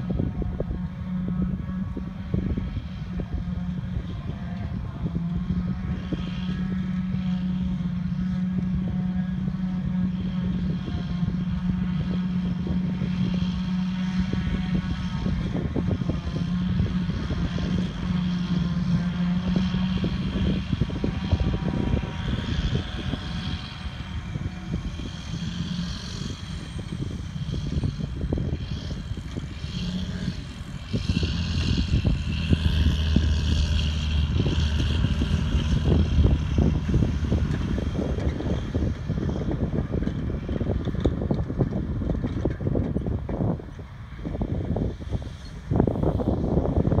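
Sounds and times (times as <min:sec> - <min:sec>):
diesel farm machinery chopping grass: 0:00.0 - 0:47.0.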